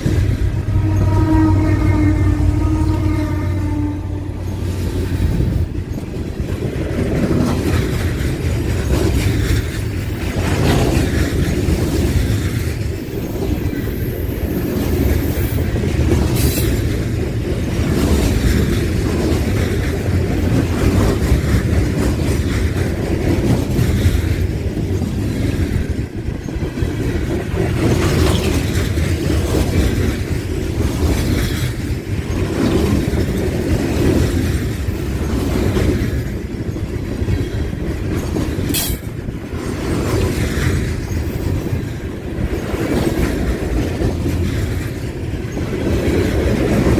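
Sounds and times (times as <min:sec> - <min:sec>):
train wheels rumbling on rails: 0:00.0 - 0:46.9
rhythmic clickety-clack: 0:04.5 - 0:46.9.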